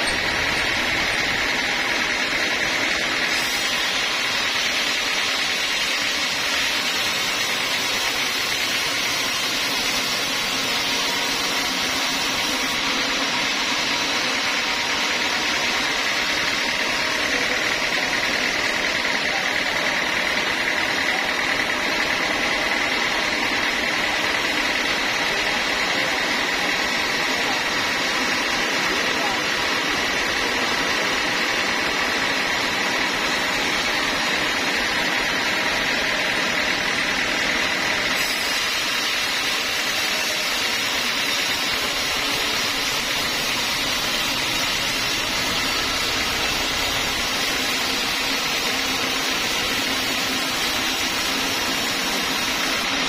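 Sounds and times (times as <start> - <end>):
band saw cutting log: 0.0 - 53.0.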